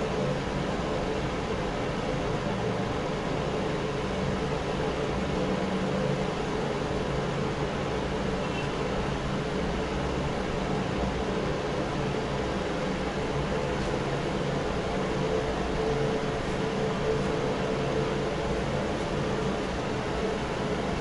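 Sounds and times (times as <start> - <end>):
fan heater blowing air: 0.0 - 21.0.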